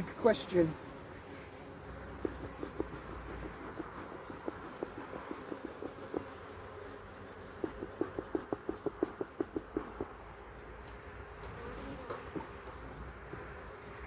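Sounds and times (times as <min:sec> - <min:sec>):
pulsing bee buzzes: 0:00.0 - 0:10.3, 0:11.2 - 0:14.0
honeybees buzzing: 0:00.0 - 0:14.0.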